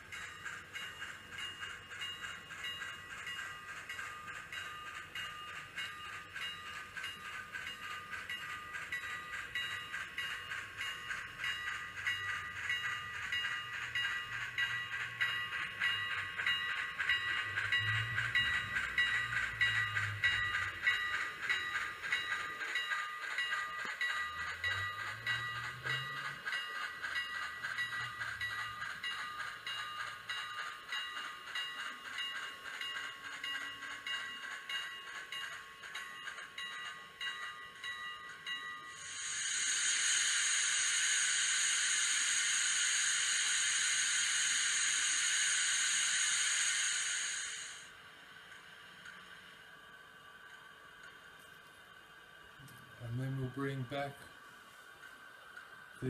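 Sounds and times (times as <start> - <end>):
model train steam sound effects: 0.0 - 36.6, 37.4 - 49.9, 52.8 - 56.0.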